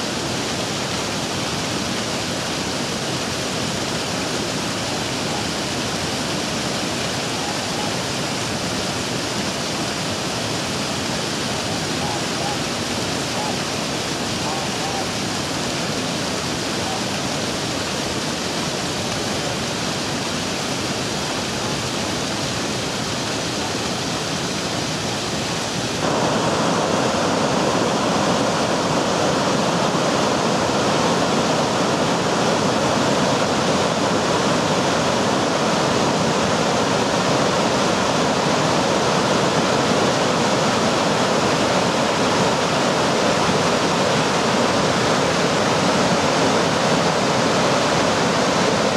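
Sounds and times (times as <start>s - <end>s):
river rushing over rapids: 0.0s - 48.9s
small waterfall splashing on rocks: 0.0s - 48.9s.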